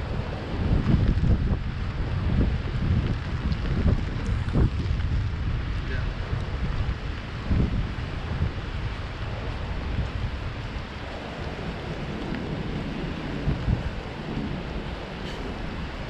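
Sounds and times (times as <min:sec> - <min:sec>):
steady rain falling: 0:00.0 - 0:16.0
wind rumbling on microphone: 0:00.0 - 0:16.0.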